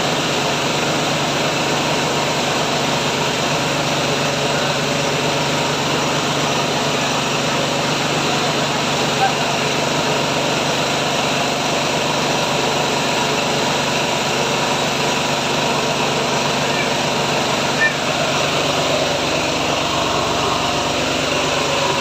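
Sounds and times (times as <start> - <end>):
rice milling machine droning: 0.0 - 22.0.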